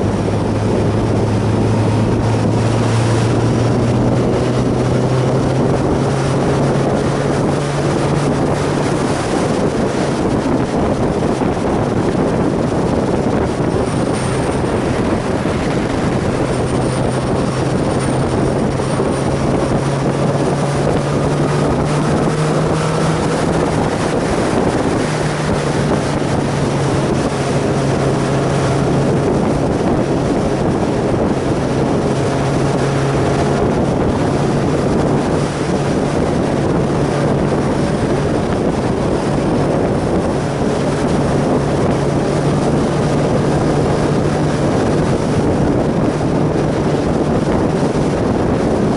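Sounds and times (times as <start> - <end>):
motorcycle engine cruising: 0.0 - 48.9
wind rush on microphone: 0.0 - 48.9.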